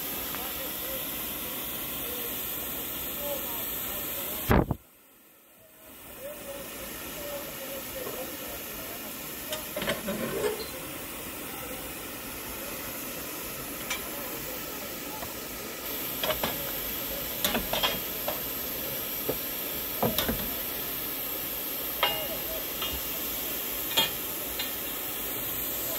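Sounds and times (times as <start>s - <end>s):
steam hissing: 0.0s - 25.9s.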